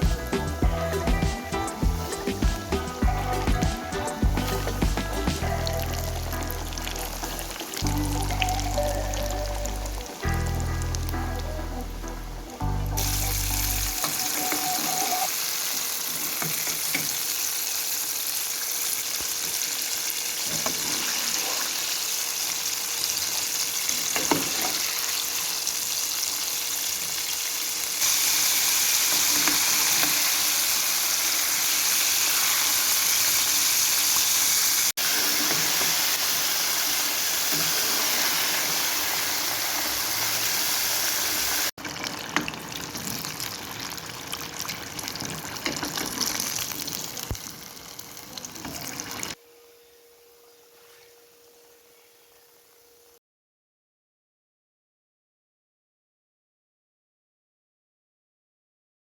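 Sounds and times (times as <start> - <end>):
food deep-frying sizzle: 0.0 - 11.4, 12.6 - 49.4.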